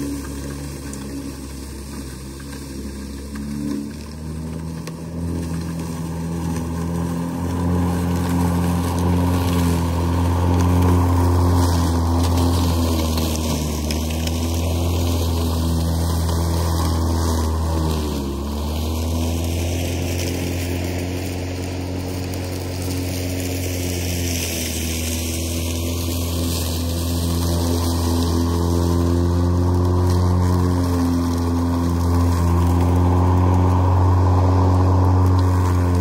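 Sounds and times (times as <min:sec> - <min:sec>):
lawn mower running: 0:00.0 - 0:36.0.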